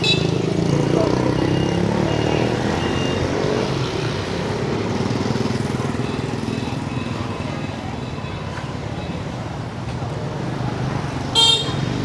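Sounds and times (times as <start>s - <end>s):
motorbikes and scooters passing: 0.0s - 12.0s.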